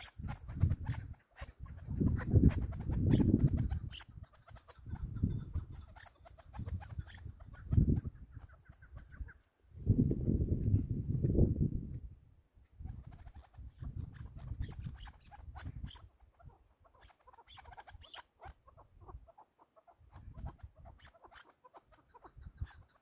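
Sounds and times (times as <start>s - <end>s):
partridge clucking calls: 0.0s - 9.4s, 12.8s - 23.0s.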